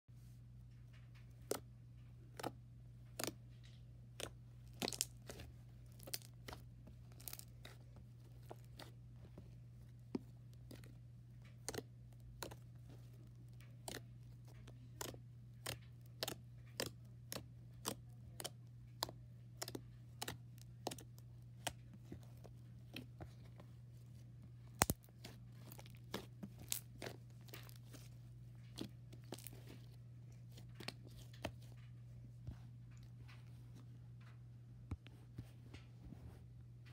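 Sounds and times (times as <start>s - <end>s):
steady low hum: 0.1s - 36.9s.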